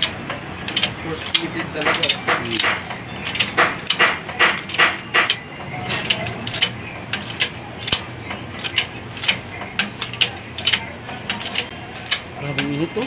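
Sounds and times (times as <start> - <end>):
hydraulic jack pump clicking: 0.0 - 13.0.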